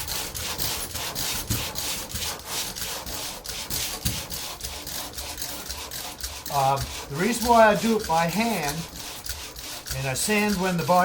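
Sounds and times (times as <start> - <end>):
hand sanding rasping: 0.0 - 11.0.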